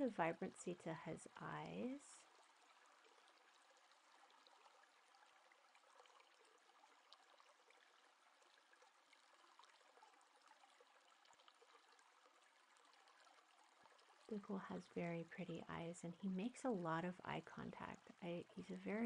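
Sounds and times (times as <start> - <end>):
faint room hiss: 0.0 - 19.0.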